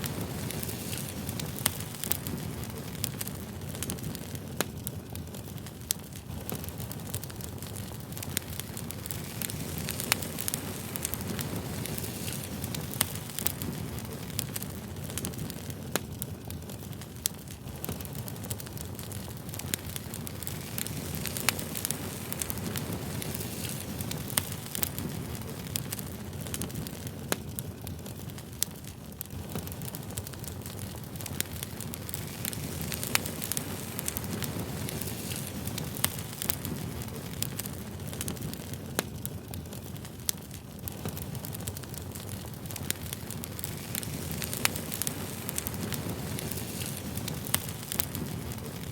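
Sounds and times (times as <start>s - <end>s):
burning wood crackling and popping: 0.0s - 48.9s
low roar of flames: 0.0s - 48.9s.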